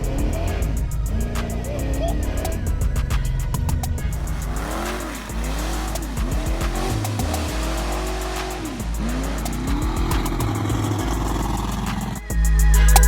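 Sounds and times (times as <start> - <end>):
car engine revving: 0.0 - 13.0
hip-hop music with heavy bass: 0.0 - 13.0.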